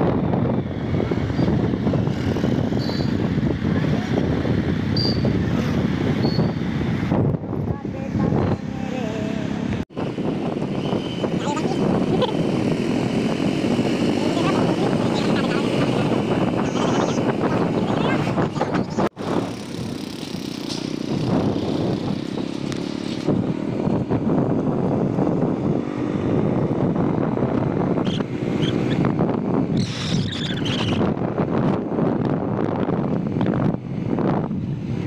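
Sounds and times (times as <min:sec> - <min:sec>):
road noise: 0:00.0 - 0:35.0
vehicle engine: 0:00.0 - 0:35.0
wind buffeting microphone: 0:00.0 - 0:35.0.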